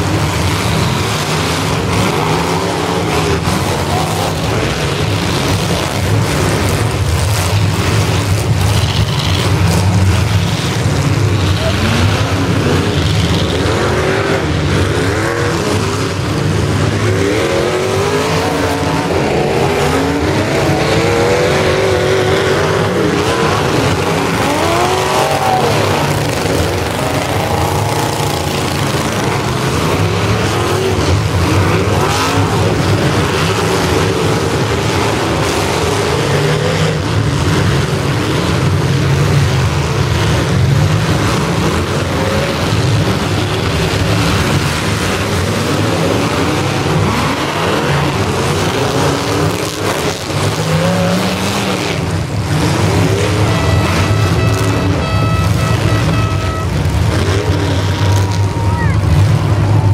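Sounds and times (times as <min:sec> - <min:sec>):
car engines revving: 0:00.0 - 0:59.9
cars ramming each other: 0:00.0 - 0:59.9.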